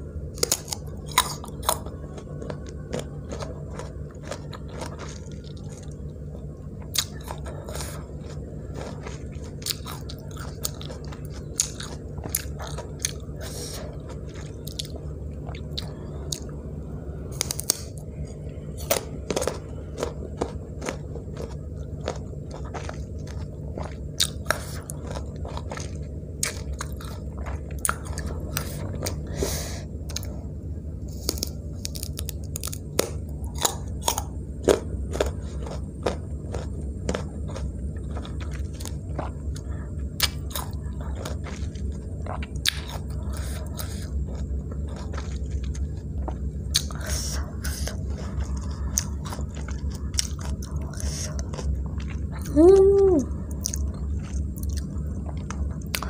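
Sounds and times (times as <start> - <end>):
crunchy chewing: 0.0 - 56.0
low hum: 0.0 - 56.0.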